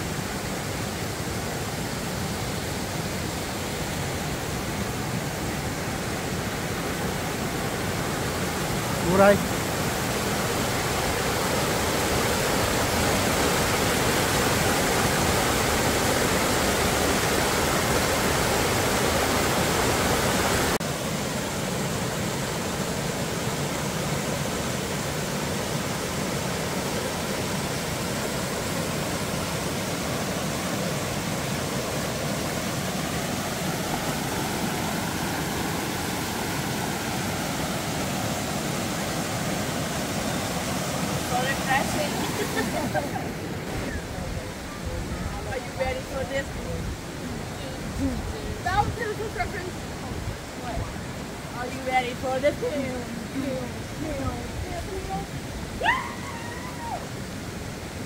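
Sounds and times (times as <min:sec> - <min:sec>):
creek rushing over boulders: 0:00.0 - 0:58.0.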